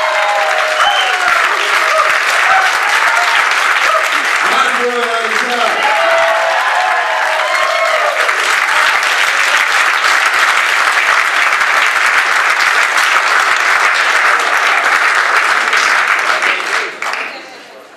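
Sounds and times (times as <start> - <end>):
audience applause: 0.0 - 17.8.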